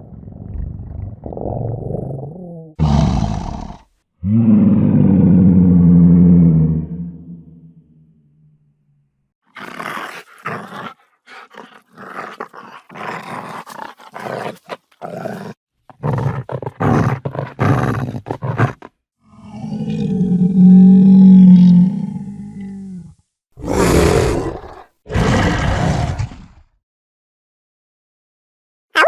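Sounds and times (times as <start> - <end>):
lion growling and snarling: 0.0 - 7.2, 9.5 - 26.7
lion roaring: 0.0 - 7.5, 9.6 - 26.6.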